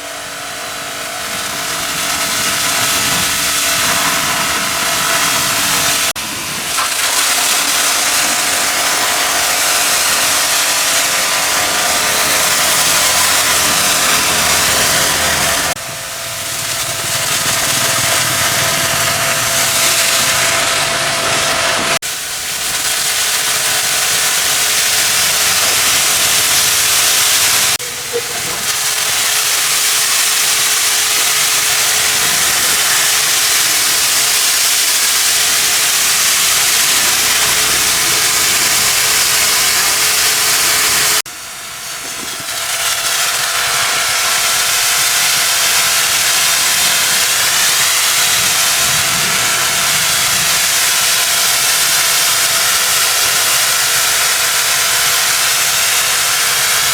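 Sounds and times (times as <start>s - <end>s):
cleaning machine jet hissing: 0.0s - 56.9s
motor hum: 0.0s - 56.9s.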